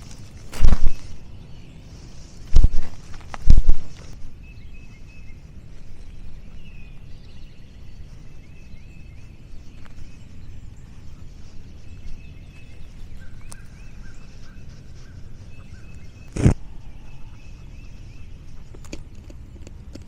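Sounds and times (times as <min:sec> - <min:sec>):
lower bird calls: 0:00.0 - 0:20.0
small birds chirping: 0:00.0 - 0:20.0
steady low rumble: 0:00.0 - 0:20.0.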